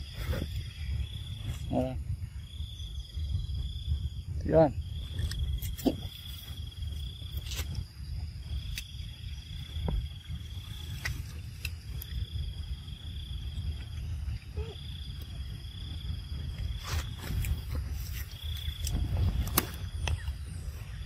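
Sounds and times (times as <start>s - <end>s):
insect trilling: 0.0s - 21.0s
steady low rumble: 0.0s - 21.0s.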